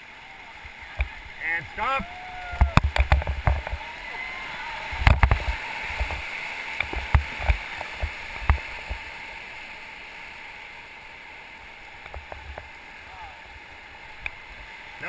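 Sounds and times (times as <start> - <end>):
whitewater rushing and gurgling: 0.0 - 15.0.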